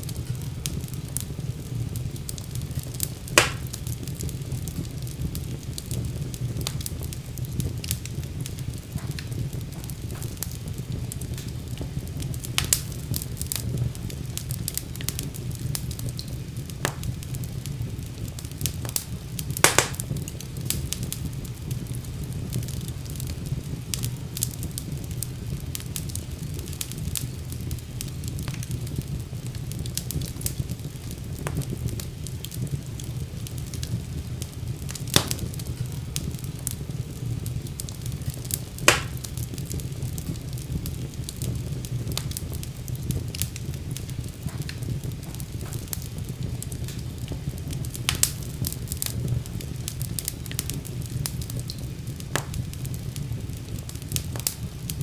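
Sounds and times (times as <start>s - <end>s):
fire flames rumbling: 0.0s - 55.0s
wood fire crackling and popping: 0.0s - 55.0s.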